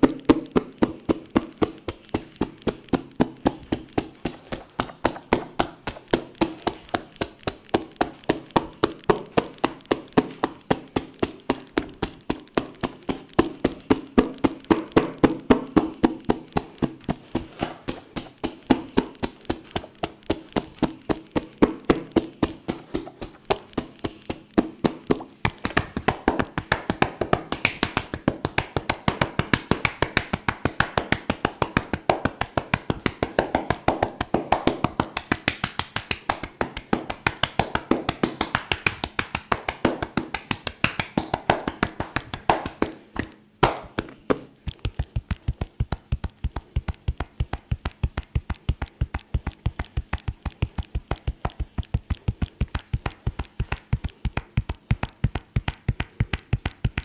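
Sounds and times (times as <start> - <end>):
hands tapping on body: 0.0 - 57.0.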